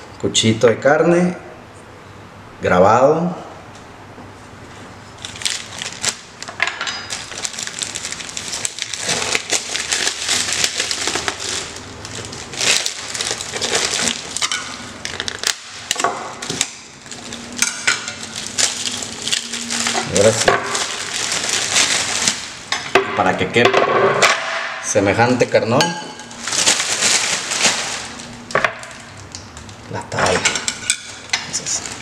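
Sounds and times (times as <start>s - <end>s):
plastic wrapping crinkling: 4.6s - 22.8s, 24.4s - 32.0s.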